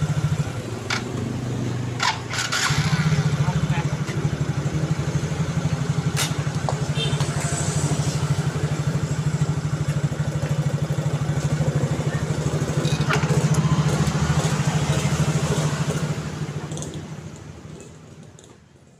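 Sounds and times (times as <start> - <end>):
scooter engine idling: 0.0 - 18.2.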